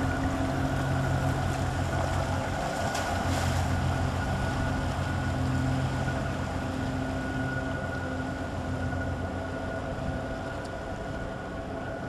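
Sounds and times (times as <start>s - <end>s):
boat engine humming: 0.0s - 12.0s
thin steady whine: 0.0s - 12.0s.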